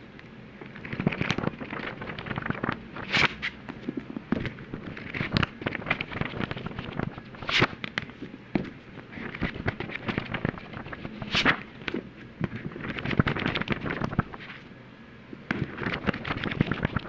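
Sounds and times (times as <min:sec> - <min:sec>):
book pages turning: 0:00.6 - 0:14.6, 0:15.5 - 0:17.0.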